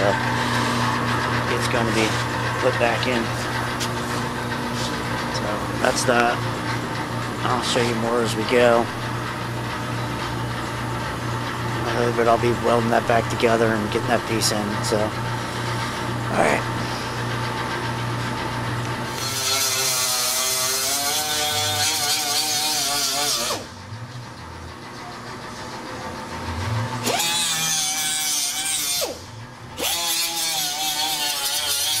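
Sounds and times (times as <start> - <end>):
power tool whining: 0.0 - 24.7, 26.4 - 32.0.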